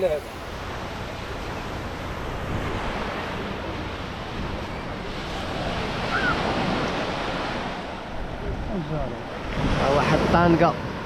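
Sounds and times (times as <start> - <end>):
sea surf washing on beach: 0.0 - 11.0
wind buffeting microphone: 0.0 - 11.0.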